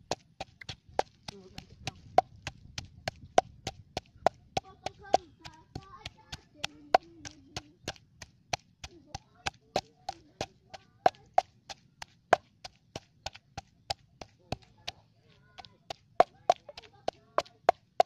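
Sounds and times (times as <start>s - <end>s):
wooden pestle pounding in mortar: 0.0s - 18.0s.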